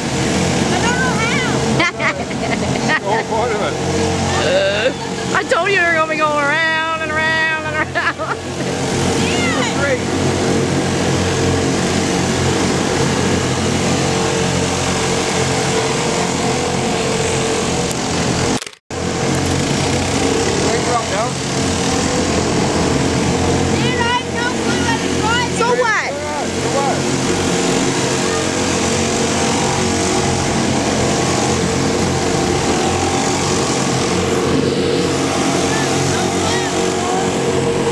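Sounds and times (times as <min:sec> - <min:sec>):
small boat engine running: 0:00.0 - 0:37.9.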